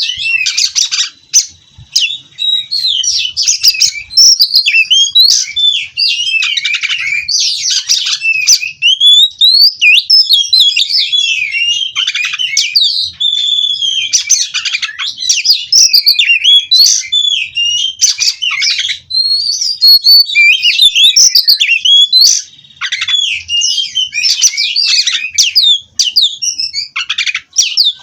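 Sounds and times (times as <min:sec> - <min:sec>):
bird singing rolling song: 0:00.0 - 0:28.0.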